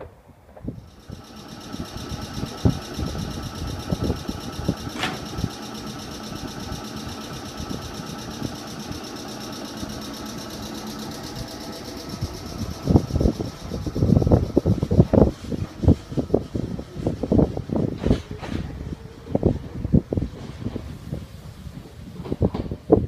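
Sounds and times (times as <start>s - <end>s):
train machinery humming: 0.7s - 23.0s.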